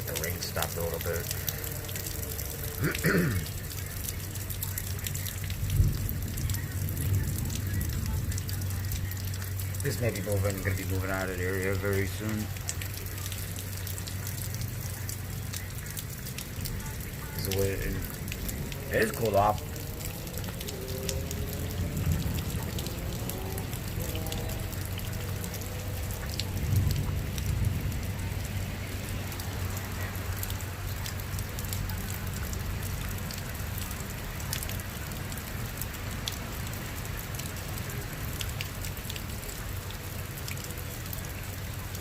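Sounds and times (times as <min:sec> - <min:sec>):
raindrops ticking close by: 0:00.0 - 0:42.0
steady rain falling: 0:00.0 - 0:42.0.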